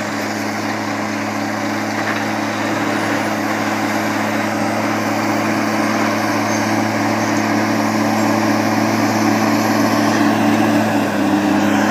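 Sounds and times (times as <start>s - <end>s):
diesel engines droning: 0.0s - 11.9s.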